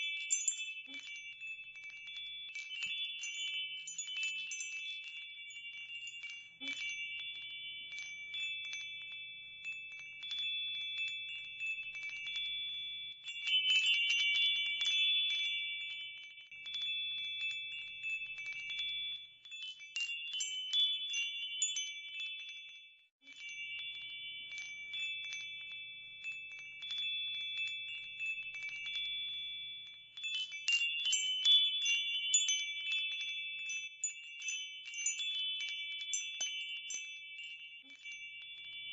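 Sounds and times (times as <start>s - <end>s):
chimes tinkling: 0.0s - 38.9s.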